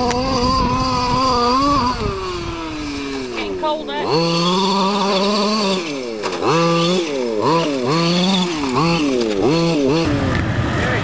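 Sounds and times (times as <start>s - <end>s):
small two-stroke engine revving: 0.0s - 11.0s.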